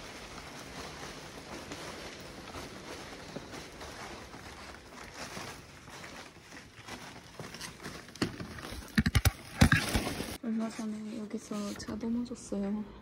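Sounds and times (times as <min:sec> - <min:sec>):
faint rustling: 0:00.0 - 0:12.5.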